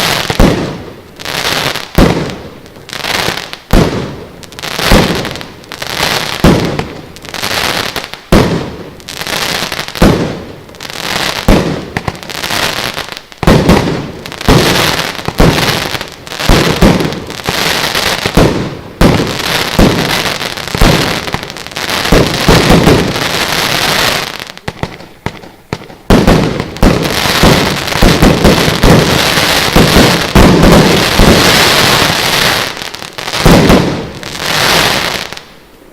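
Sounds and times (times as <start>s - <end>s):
firework crackling: 0.0s - 35.7s.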